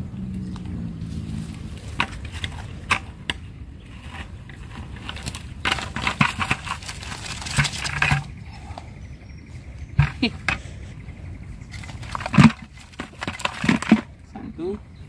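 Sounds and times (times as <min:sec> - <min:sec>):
crab trap netting rattling: 0:01.8 - 0:09.0, 0:09.7 - 0:14.7.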